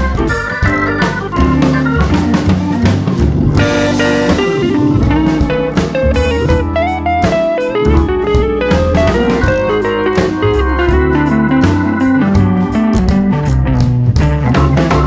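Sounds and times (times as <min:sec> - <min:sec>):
drum kit beat: 0:00.0 - 0:15.0
guitar tune: 0:00.0 - 0:15.0.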